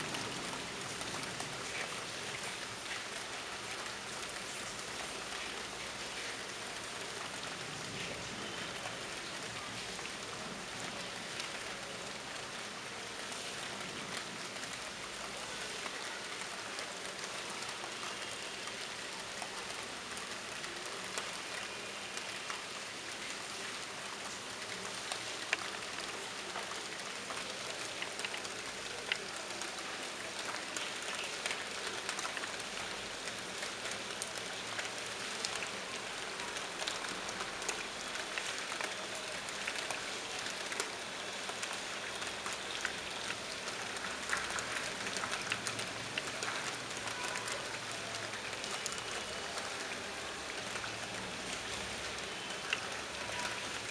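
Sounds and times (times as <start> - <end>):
rain hissing on floor: 0.0 - 53.9
raindrop splats: 0.0 - 53.9.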